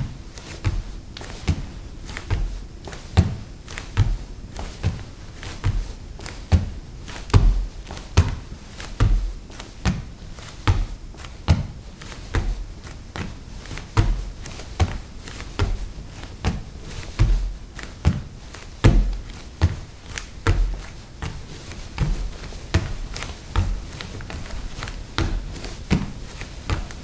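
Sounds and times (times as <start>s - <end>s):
bare feet walking on wooden floor: 0.0s - 27.0s.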